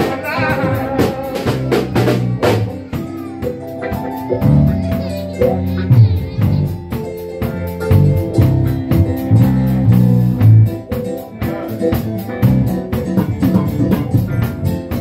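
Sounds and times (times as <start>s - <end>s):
drum kit: 0.0s - 15.0s
electric bass guitar: 0.0s - 15.0s
keyboard: 0.0s - 15.0s.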